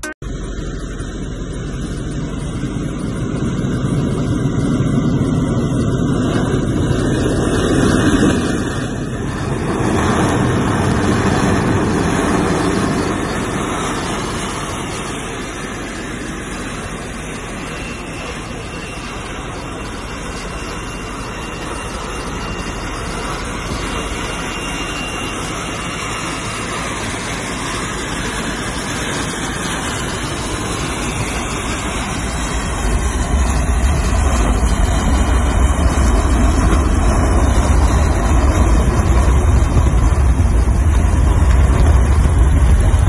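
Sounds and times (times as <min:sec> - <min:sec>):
heavy low rumble: 0:00.0 - 0:43.0
helicopter engine and rotor rushing: 0:00.0 - 0:43.0.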